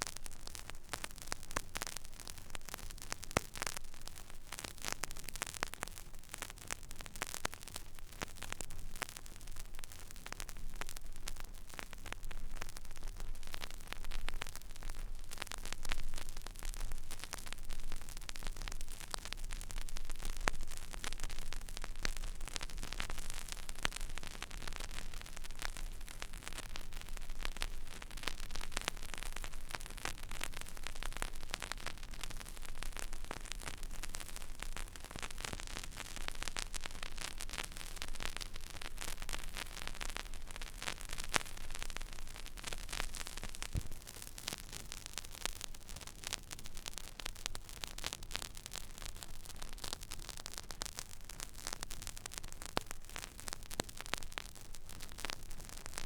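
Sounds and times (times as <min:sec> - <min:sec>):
vinyl surface hiss and crackle: 0:00.0 - 0:56.0.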